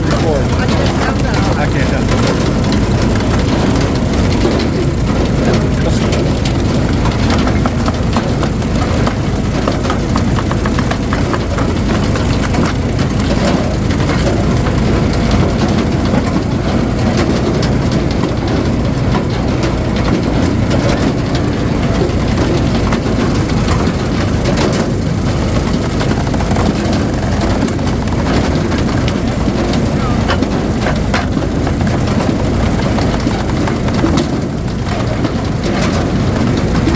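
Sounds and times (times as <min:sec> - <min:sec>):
firewood splitter engine running: 0:00.0 - 0:36.9.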